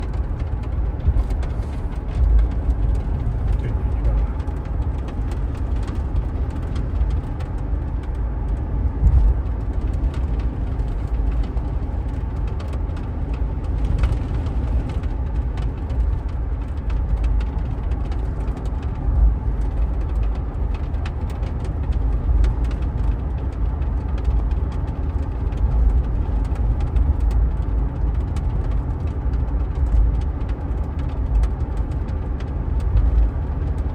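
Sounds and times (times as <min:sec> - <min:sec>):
road and drivetrain rumble: 0:00.0 - 0:33.9.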